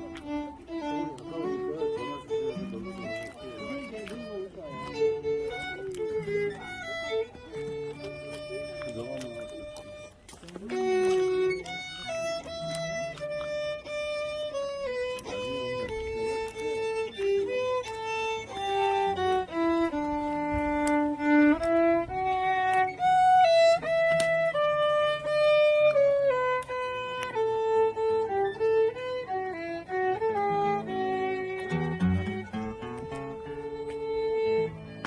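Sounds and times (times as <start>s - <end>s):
solo violin melody: 0.0s - 35.0s.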